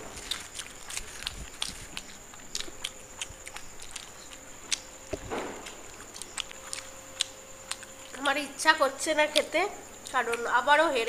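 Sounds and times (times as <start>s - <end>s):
people chewing and biting food: 0.0s - 8.4s, 9.3s - 10.7s.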